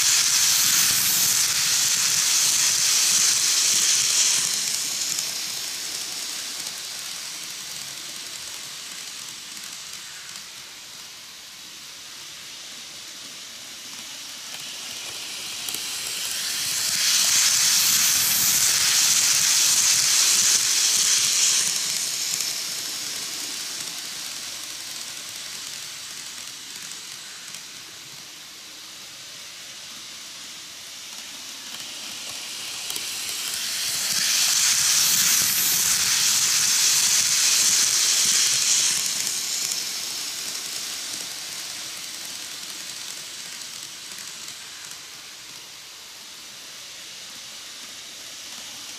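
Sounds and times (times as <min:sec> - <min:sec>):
model train whirring: 0:00.0 - 0:48.9.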